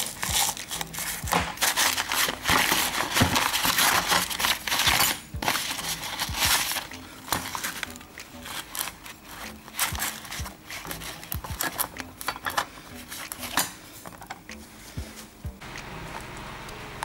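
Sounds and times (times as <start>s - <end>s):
wrapping paper crinkling: 0.0s - 15.3s.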